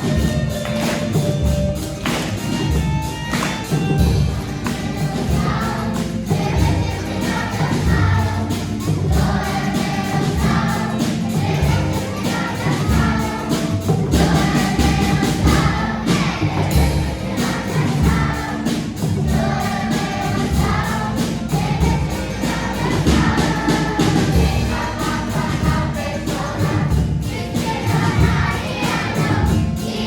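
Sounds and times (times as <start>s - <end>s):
choir singing: 0.0s - 30.0s
instrumental backing with beat: 0.0s - 30.0s.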